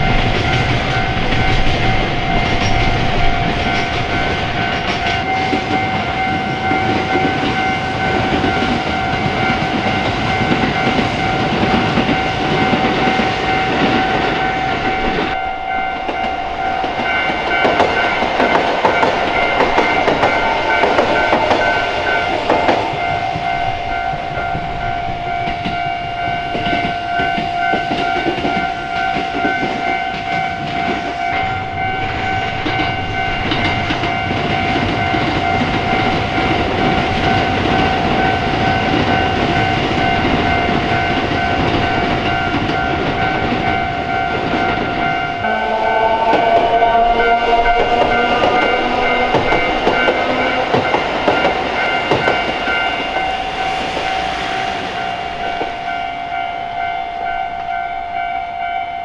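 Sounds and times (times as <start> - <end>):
train wheels clattering on rails: 0.0 - 58.7
level-crossing warning bell: 0.0 - 59.0.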